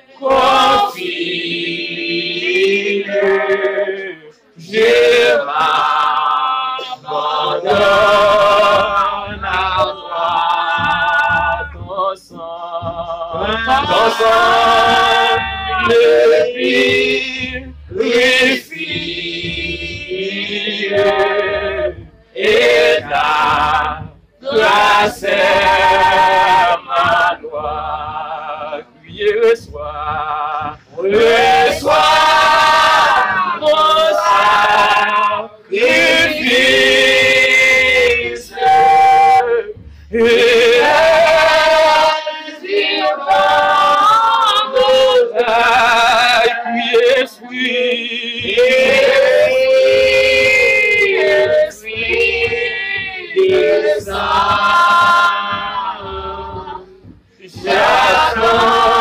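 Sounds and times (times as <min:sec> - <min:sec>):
people singing a worship song: 0:00.0 - 0:59.0.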